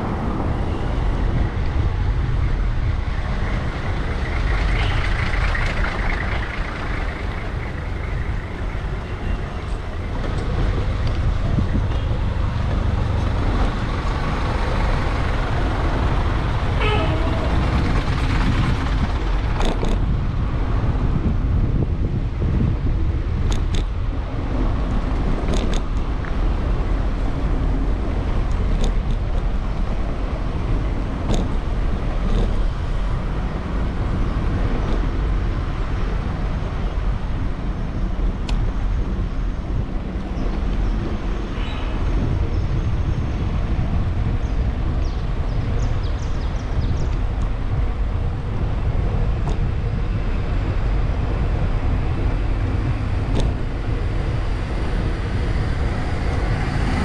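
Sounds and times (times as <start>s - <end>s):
road traffic: 0.0s - 57.0s
wind rush on microphone: 0.0s - 57.0s.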